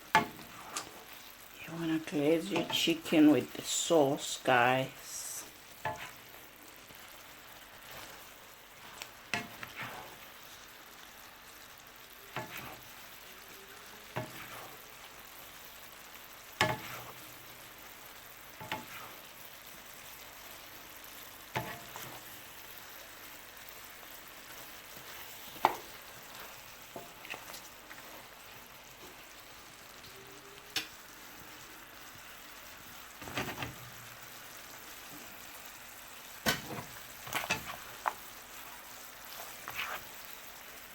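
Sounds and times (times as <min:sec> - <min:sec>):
chicken sizzling in a pan: 0:00.0 - 0:40.9.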